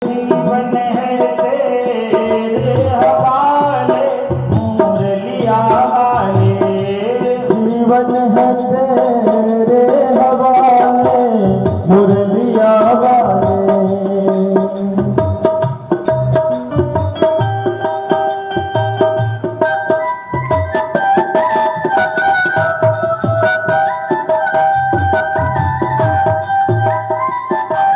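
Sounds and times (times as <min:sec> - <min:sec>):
hand drums beat: 0:00.0 - 0:27.9.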